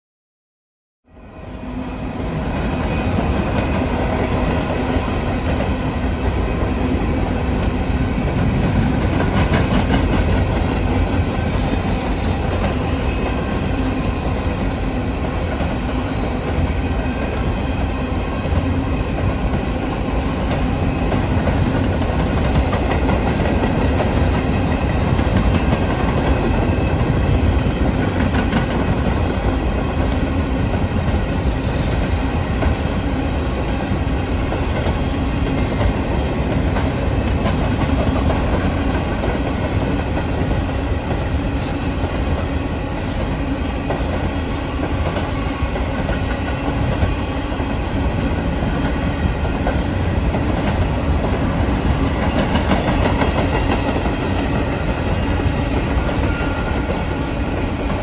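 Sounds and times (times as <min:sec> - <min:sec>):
freight train wheels clattering: 0:02.5 - 0:58.0.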